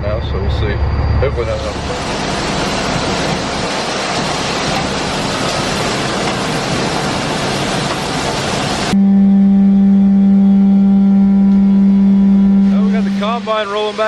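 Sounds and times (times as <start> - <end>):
machinery rushing roar: 0.0 - 9.0, 11.7 - 14.0.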